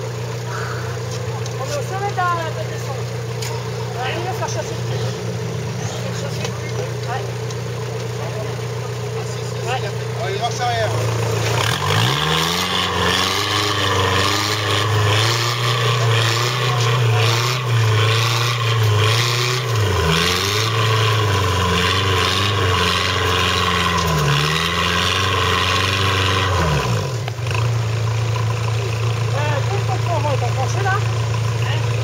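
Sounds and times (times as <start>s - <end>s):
off-road vehicle engine under load: 0.0s - 32.0s.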